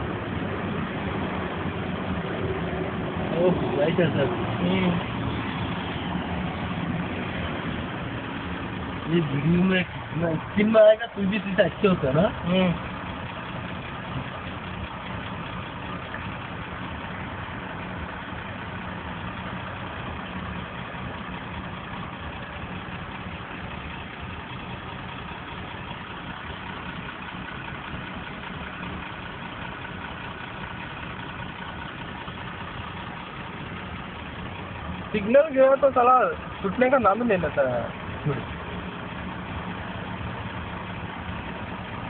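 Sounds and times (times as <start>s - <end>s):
car engine running: 0.0s - 42.0s
road and traffic noise: 0.0s - 42.0s.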